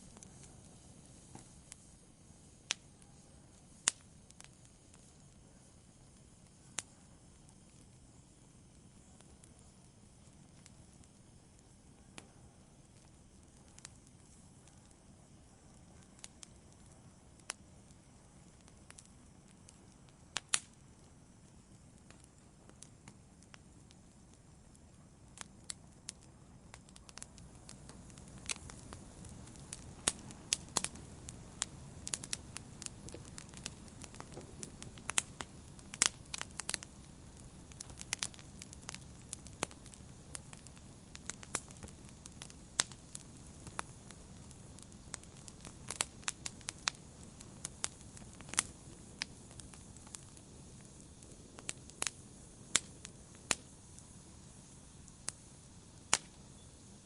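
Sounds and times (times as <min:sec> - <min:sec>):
fire low steady hiss: 0:00.0 - 0:57.0
wood fire crackling and popping: 0:00.0 - 0:57.0.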